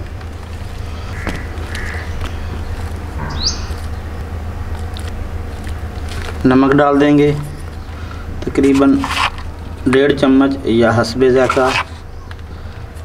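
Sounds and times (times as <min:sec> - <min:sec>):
low steady hum: 0:00.0 - 0:13.0
birds calling: 0:00.5 - 0:13.0.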